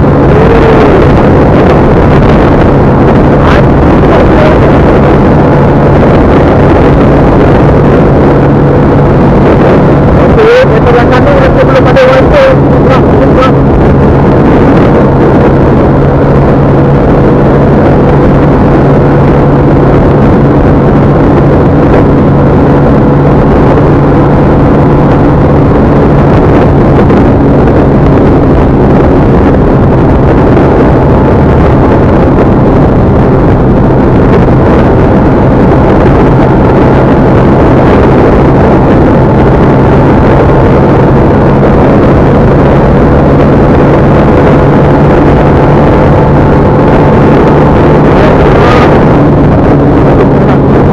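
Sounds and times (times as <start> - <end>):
road noise: 0.0 - 50.9
vehicle engine: 0.0 - 50.9.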